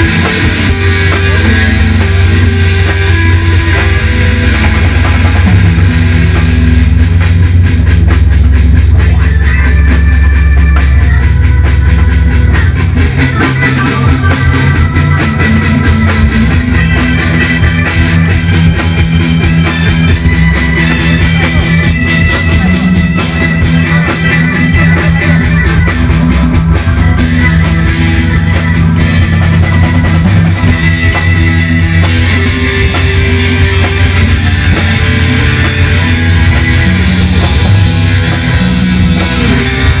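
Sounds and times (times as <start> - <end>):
bass guitar: 0.0 - 40.0
drum kit: 0.0 - 40.0
electric guitar: 0.0 - 40.0
keyboard: 0.0 - 40.0.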